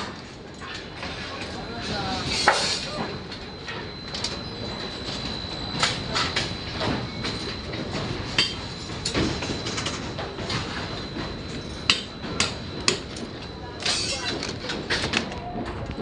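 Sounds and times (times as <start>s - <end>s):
steady mechanical hum: 0.0s - 16.0s
thin high steady tone: 0.6s - 14.9s.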